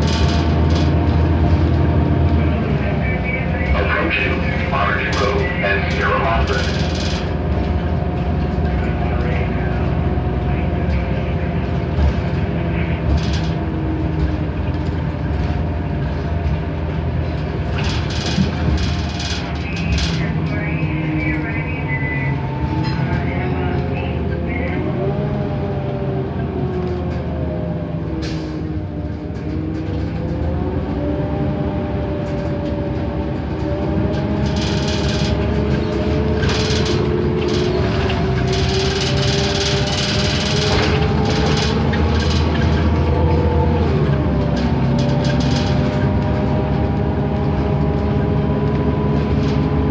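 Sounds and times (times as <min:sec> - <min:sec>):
bus engine drone: 0:00.0 - 0:49.9
road rumble: 0:00.0 - 0:49.9.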